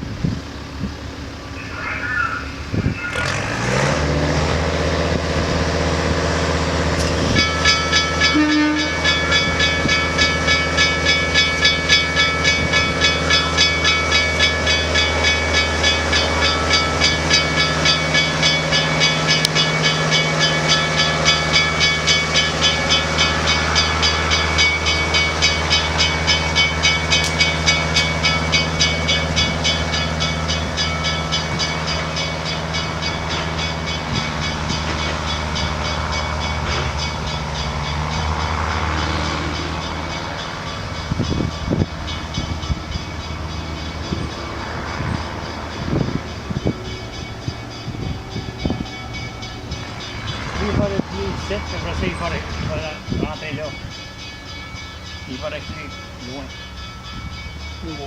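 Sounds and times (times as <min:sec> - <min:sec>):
locomotive low hum: 0:00.0 - 0:58.0
train bell ringing: 0:01.4 - 0:58.0.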